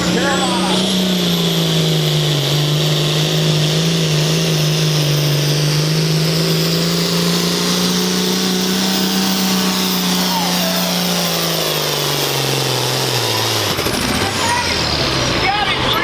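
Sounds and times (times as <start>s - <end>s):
engine running hard under load: 0.0s - 16.0s.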